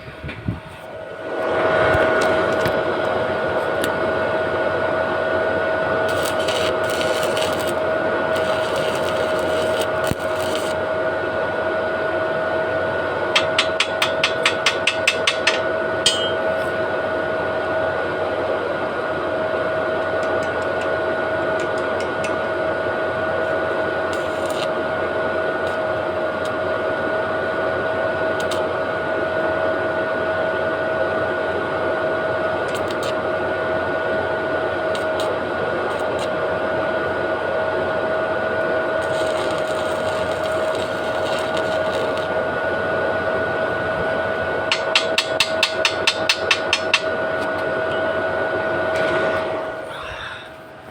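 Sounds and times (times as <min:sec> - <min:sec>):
machine hum and hiss: 0:00.0 - 0:50.9.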